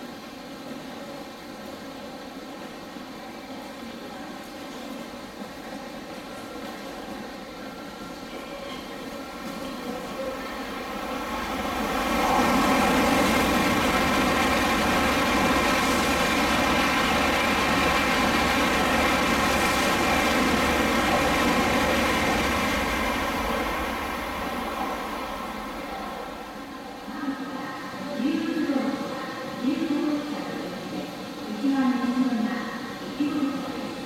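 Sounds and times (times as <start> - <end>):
high-speed train passing: 0.0 - 34.0.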